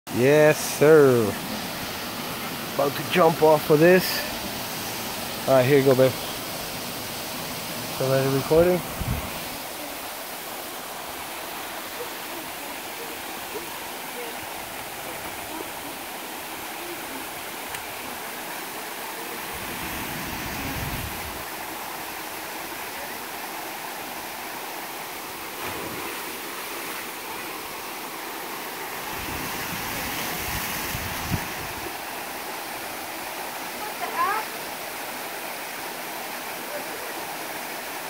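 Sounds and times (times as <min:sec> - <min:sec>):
waterfall rushing: 0:00.1 - 0:38.0.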